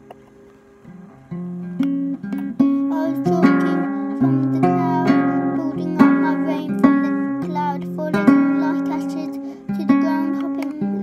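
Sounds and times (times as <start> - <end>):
acoustic guitar strumming: 0.8 - 11.0.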